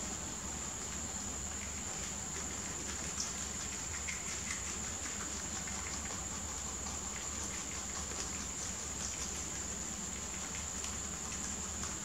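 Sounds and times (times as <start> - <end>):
rabbits chewing greens: 0.0 - 12.0.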